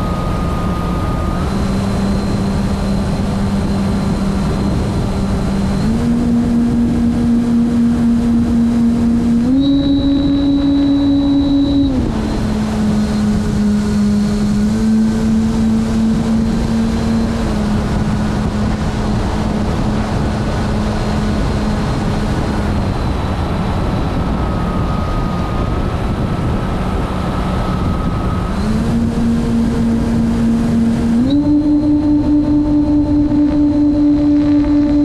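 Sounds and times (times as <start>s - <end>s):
airflow rushing over microphone: 0.0s - 35.0s
model airplane motor running: 0.0s - 35.0s.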